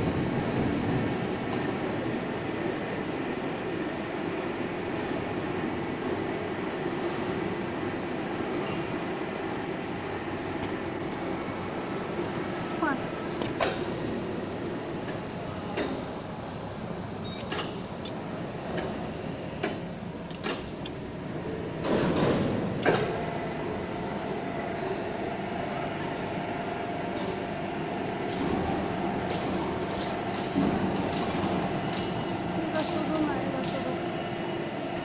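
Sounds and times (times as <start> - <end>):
factory floor noise: 0.0 - 35.0.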